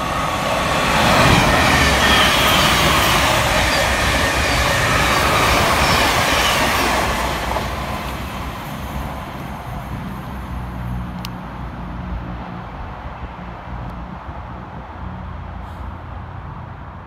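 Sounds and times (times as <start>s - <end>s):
train wheels rushing rumble: 0.0s - 16.8s.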